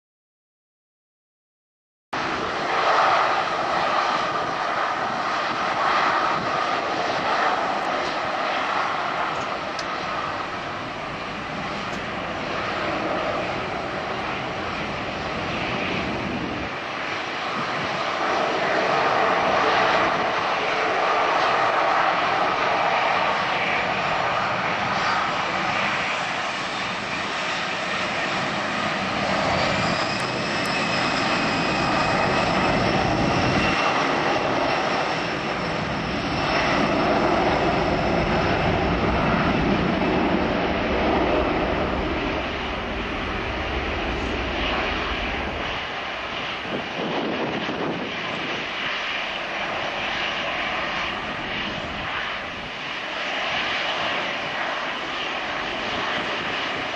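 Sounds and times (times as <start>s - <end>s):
jet engines running: 2.2s - 56.9s.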